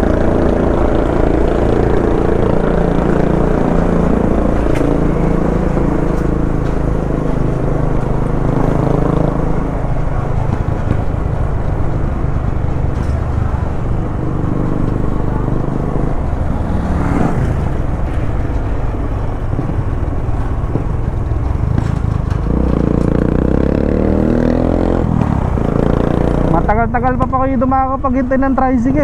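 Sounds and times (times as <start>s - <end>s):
motorcycle engine cruising: 0.0s - 29.0s
road and wind noise: 0.0s - 29.0s.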